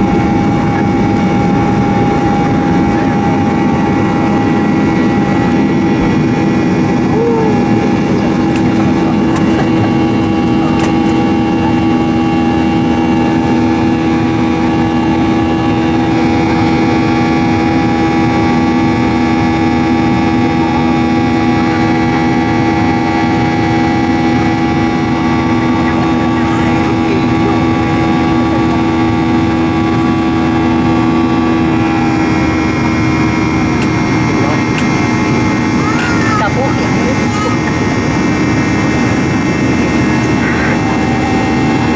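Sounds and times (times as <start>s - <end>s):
jet engine drone in cabin: 0.0s - 41.9s.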